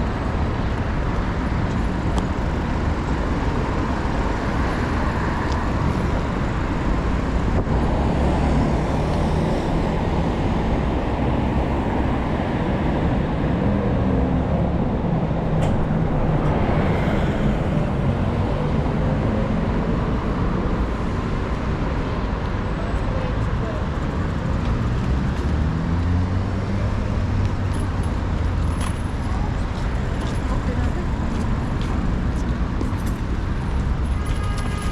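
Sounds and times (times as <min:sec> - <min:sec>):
city street traffic: 0:00.0 - 0:34.9.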